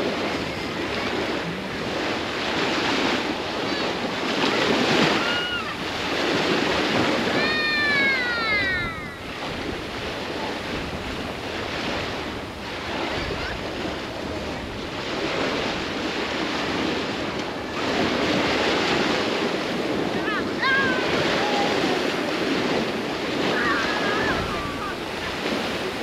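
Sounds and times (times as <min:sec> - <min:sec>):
sea surf breaking on beach: 0:00.0 - 0:26.0
wind: 0:00.0 - 0:26.0.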